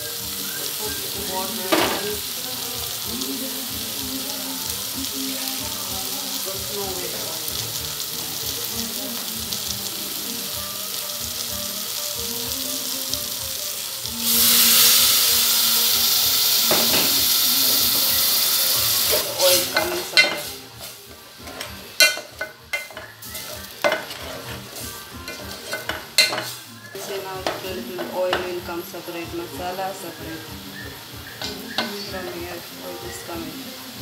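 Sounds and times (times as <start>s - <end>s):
masala sizzling in a pot: 0.0s - 34.0s
water hissing in hot pot: 0.0s - 34.0s.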